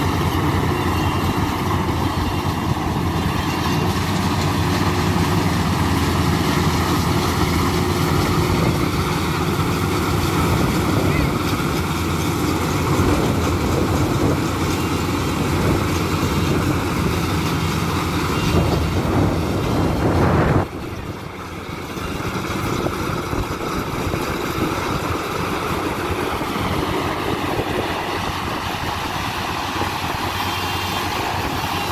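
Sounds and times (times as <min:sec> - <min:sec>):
combine harvester drone: 0:00.0 - 0:31.9.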